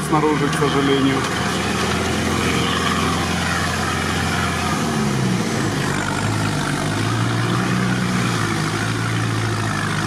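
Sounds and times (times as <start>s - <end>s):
engine running under load: 0.0s - 10.0s.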